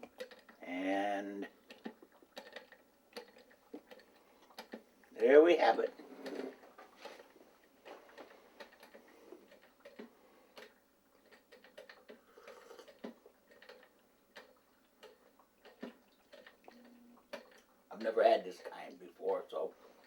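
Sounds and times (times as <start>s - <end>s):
faint small clicks and ticks: 0.0s - 0.6s, 1.4s - 5.3s, 6.2s - 19.6s.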